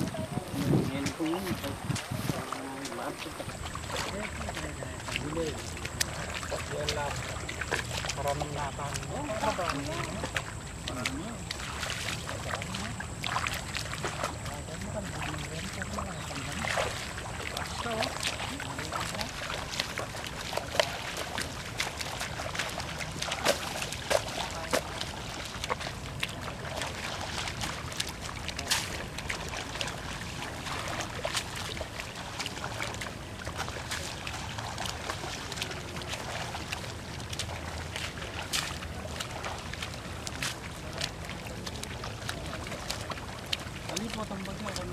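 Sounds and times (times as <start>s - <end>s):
steady watery wash: 0.0s - 44.9s
water and mud splashing: 0.0s - 44.9s.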